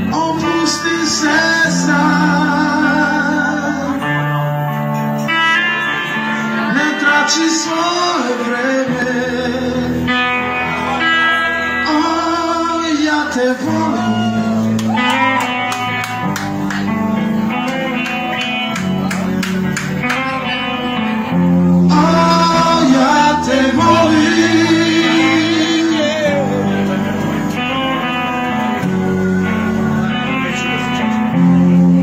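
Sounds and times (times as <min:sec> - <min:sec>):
electric guitar leading: 0:00.0 - 0:32.0
live blues band playing: 0:00.0 - 0:32.0.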